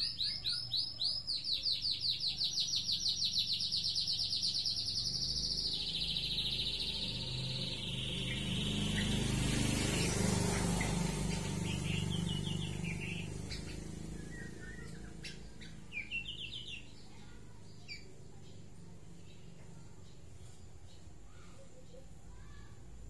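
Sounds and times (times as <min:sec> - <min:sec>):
bird high chirping: 0:00.0 - 0:22.7.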